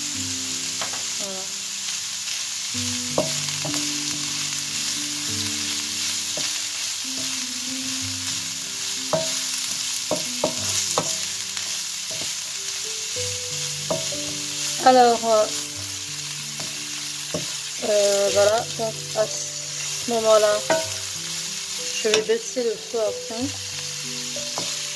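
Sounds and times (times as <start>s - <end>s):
vegetables sizzling in oil: 0.0s - 24.9s.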